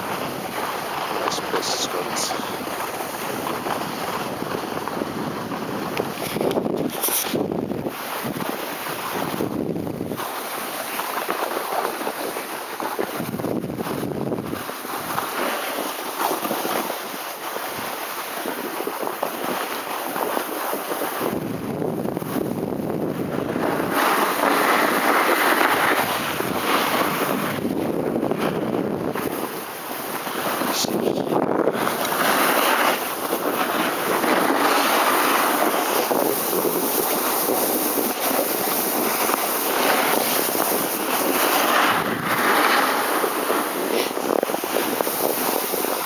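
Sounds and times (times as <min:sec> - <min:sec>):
snowboard scraping over snow: 0:00.0 - 0:46.0
wind buffeting microphone: 0:00.0 - 0:46.0.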